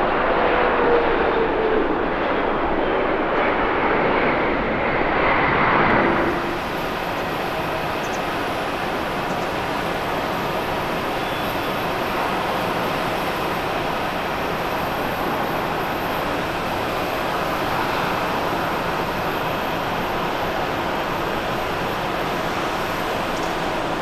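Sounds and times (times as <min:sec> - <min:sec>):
distant jet engines rushing: 0:00.0 - 0:24.0.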